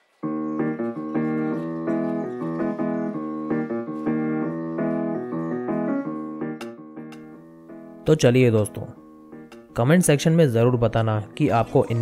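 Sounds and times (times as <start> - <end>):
keyboard music: 0.2 - 12.0.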